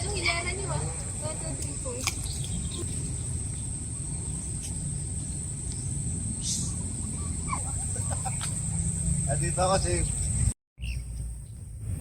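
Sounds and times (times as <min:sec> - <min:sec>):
insects droning: 0:00.0 - 0:12.0
low outdoor rumble: 0:00.0 - 0:12.0.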